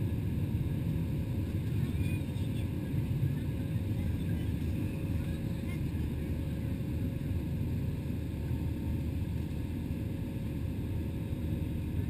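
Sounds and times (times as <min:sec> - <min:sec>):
airliner engines rumbling: 0:00.0 - 0:12.0
faint steady hum: 0:00.0 - 0:12.0.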